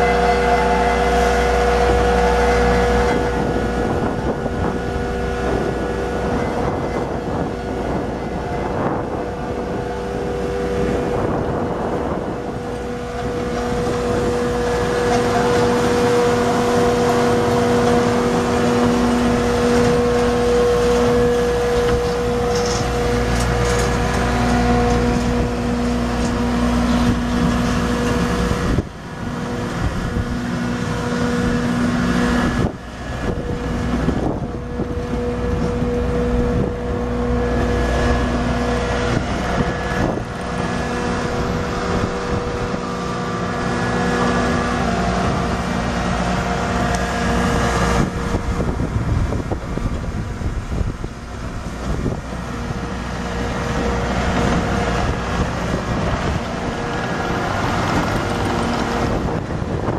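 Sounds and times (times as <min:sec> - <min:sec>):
diesel engine hum and whine: 0:00.0 - 0:59.9.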